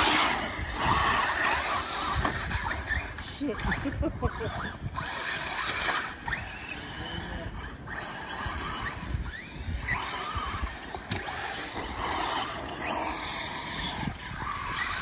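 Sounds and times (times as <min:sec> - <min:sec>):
toy car motor whining: 0:00.0 - 0:15.0
tyres on dirt: 0:00.0 - 0:15.0.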